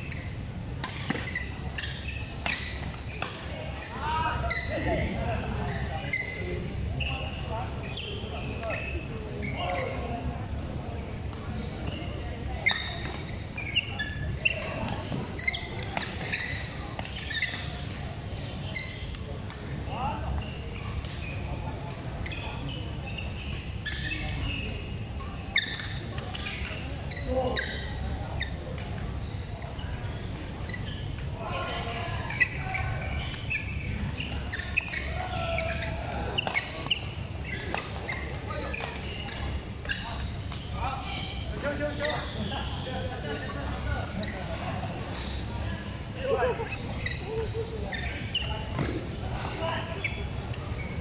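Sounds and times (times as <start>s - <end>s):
shoes squeaking on court: 0.0s - 10.3s, 10.9s - 51.0s.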